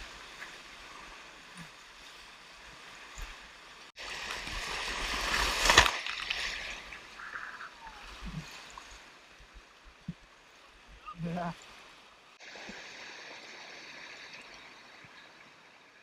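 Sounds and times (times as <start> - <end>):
water splashing: 0.0 - 16.0.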